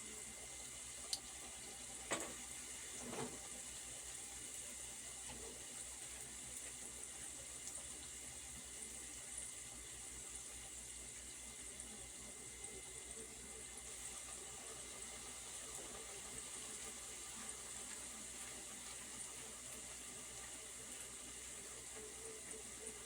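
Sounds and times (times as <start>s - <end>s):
dumplings sizzling in hot oil: 0.0s - 23.0s.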